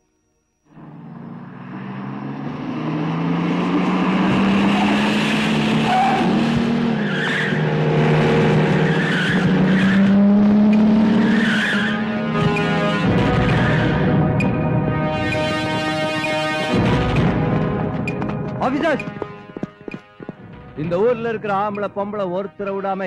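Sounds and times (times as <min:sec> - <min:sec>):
tyres skidding: 0:00.7 - 0:22.9
car engines driving: 0:00.7 - 0:23.0.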